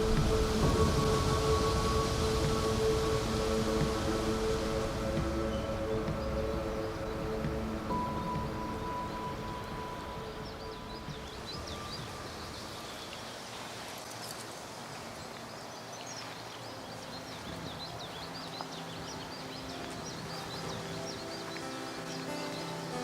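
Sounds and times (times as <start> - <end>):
faint background music: 0.0 - 23.0
small birds chirping: 0.0 - 23.0
steady rushing noise: 0.0 - 23.0.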